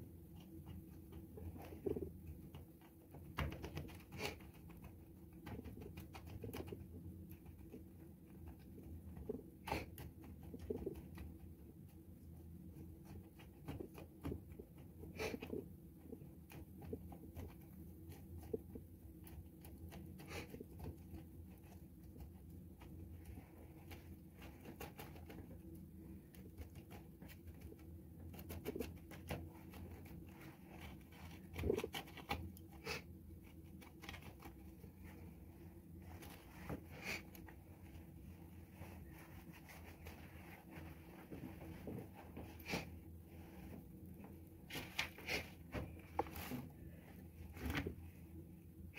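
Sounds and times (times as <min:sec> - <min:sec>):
faint low hum: 0:00.0 - 0:48.9.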